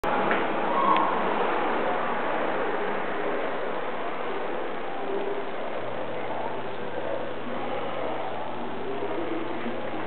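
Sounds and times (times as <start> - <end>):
ceiling fan humming: 0.0 - 10.0.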